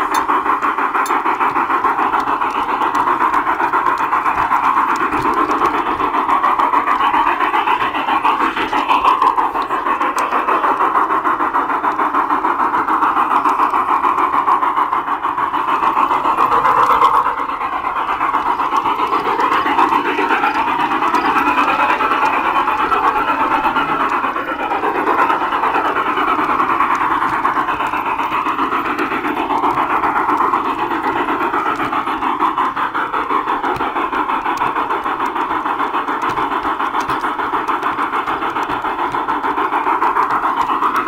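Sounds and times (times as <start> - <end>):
model train rattling whir: 0.0 - 41.0.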